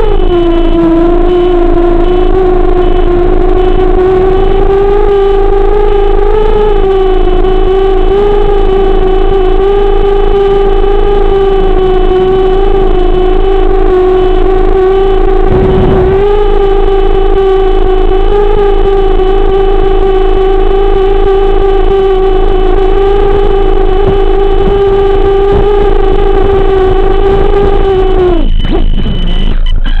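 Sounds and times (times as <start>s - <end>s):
drone motors humming: 0.0s - 30.0s.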